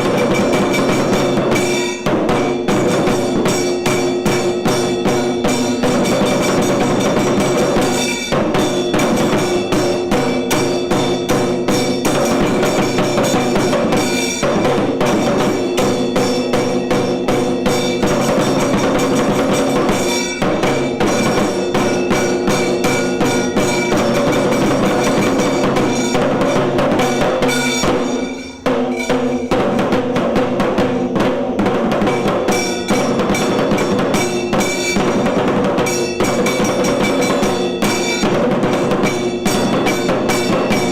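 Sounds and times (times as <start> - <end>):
fast dense drumming: 0.0 - 40.9
metallic ringing percussion: 0.0 - 40.9
steady held tones: 0.0 - 40.9.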